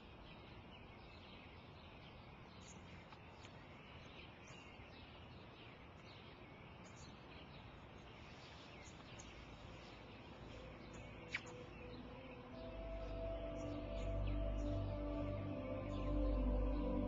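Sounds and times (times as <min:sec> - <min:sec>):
faint outdoor air: 0:00.0 - 0:17.0
small birds chirping: 0:00.0 - 0:17.0.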